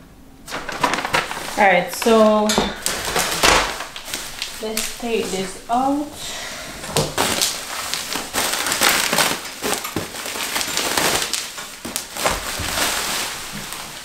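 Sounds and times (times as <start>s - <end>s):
bubble wrap crinkling: 0.4s - 14.0s.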